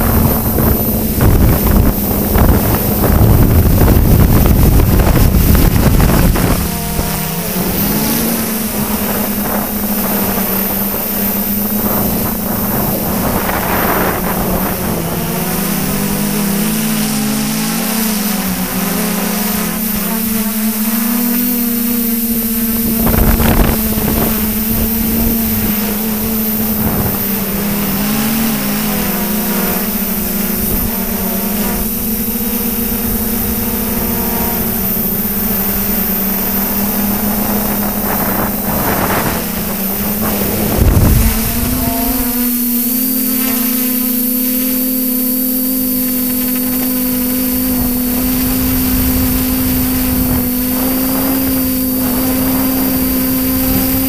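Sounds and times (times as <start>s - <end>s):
drone motors humming: 0.0s - 54.0s
thin high whine: 0.0s - 54.0s.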